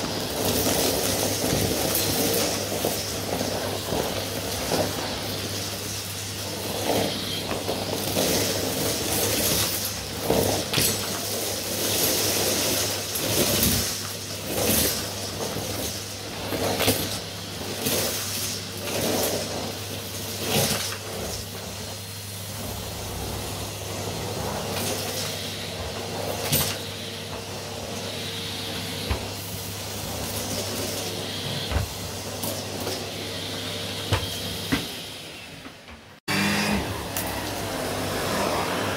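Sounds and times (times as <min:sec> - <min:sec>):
vacuum cleaner running over rug: 0:00.0 - 0:38.9.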